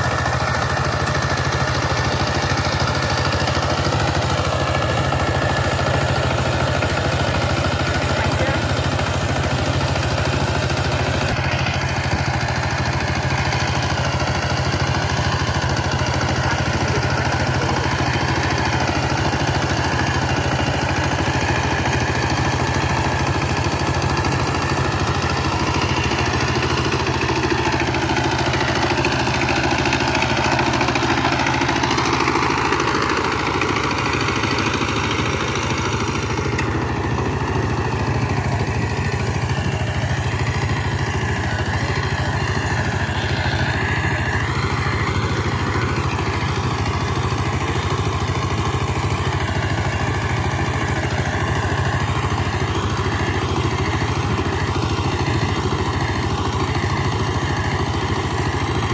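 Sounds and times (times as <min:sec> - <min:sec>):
diesel tiller engine running: 0:00.0 - 0:58.9.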